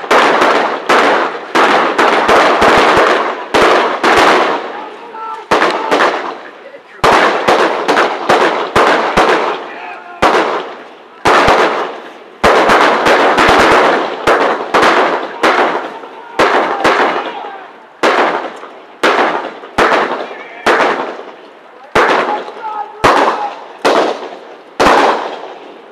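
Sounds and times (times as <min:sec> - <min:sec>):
gunshots with echo: 0:00.0 - 0:25.9.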